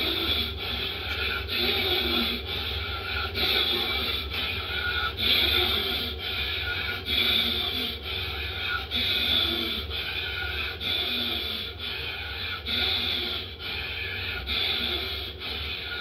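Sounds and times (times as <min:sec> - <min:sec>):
man breathing forcefully: 0:00.0 - 0:16.0.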